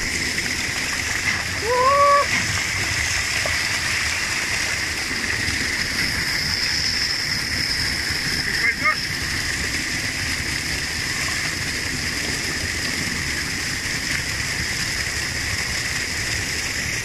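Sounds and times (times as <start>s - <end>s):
small cascade pouring into pool: 0.0s - 17.0s
water rushing through rock channel: 0.0s - 17.0s.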